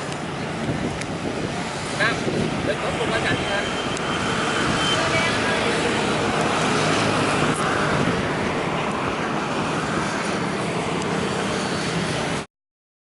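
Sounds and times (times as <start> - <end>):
engine running: 0.0 - 12.5.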